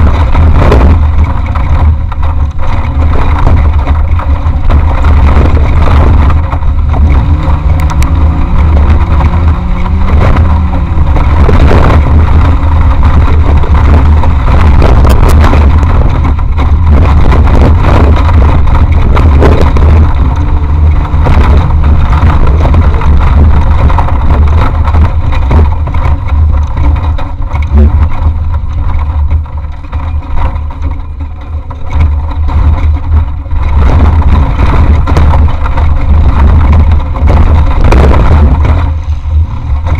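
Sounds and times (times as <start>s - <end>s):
off-road vehicle engine running hard: 0.0s - 39.9s
sharp knocks and jolts: 0.0s - 39.9s
wind buffeting microphone: 0.0s - 39.9s.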